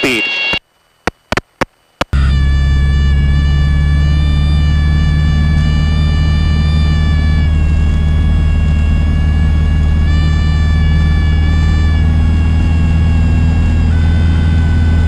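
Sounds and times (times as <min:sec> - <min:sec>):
high whine: 0:00.0 - 0:15.0
airplane engine and propeller drone: 0:01.9 - 0:15.0.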